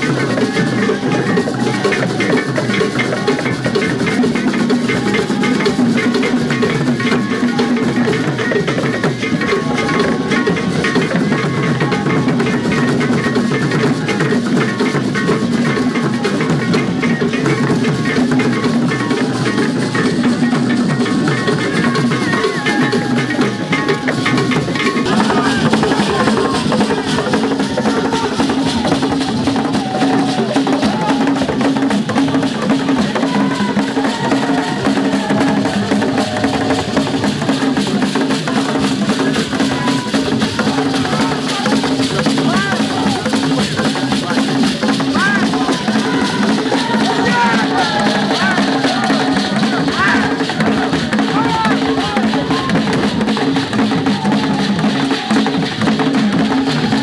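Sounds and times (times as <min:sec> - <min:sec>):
hand drums beating fast rhythm: 0:00.0 - 0:57.0.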